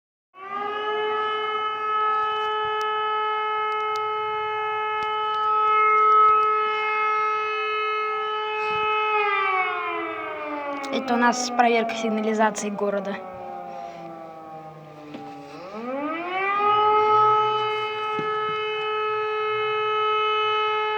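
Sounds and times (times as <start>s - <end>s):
warning siren: 0.4s - 20.9s.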